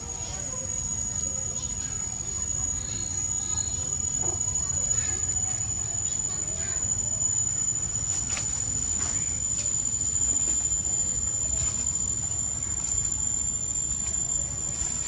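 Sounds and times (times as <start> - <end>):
high-pitched whine: 0.0 - 15.0.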